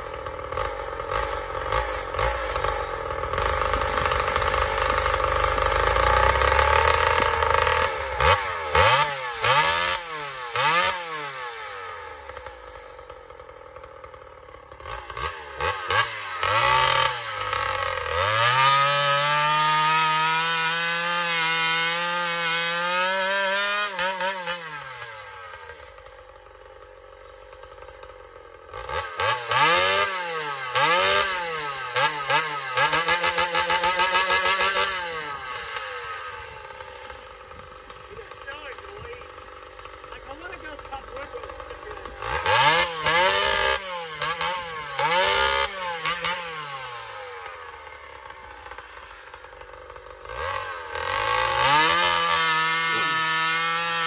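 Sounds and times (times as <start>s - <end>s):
two-stroke chainsaw revving: 0.0s - 54.0s.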